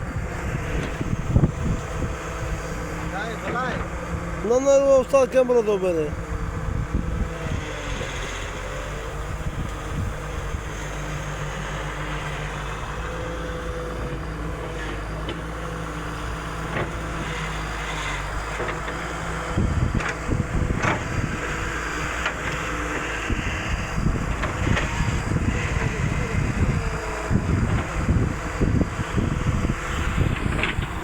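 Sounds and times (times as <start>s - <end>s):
wind buffeting microphone: 0.0s - 5.2s, 5.9s - 31.0s
excavator diesel engine running: 0.0s - 31.0s.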